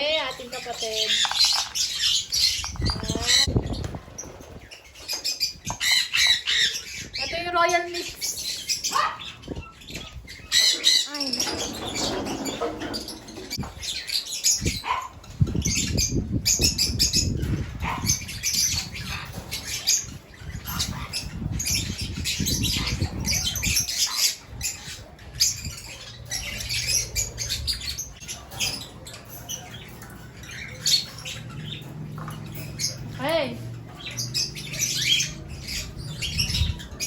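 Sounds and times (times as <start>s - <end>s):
parrots chirping and squawking: 0.0s - 37.0s.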